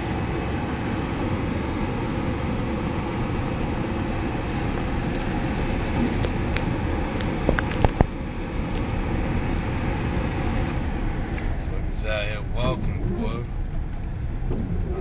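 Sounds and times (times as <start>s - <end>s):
car engine rumble from inside: 0.0s - 15.0s.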